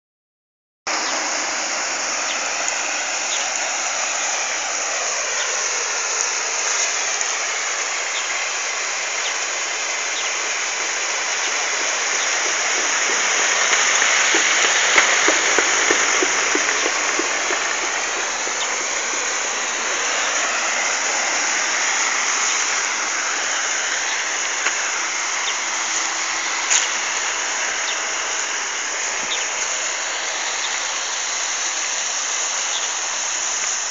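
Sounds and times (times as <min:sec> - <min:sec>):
flowing river water: 0:00.9 - 0:33.9.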